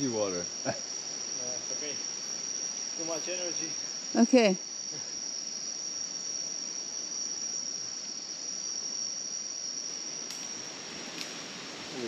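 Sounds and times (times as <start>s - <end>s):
night insects droning: 0.0s - 12.0s.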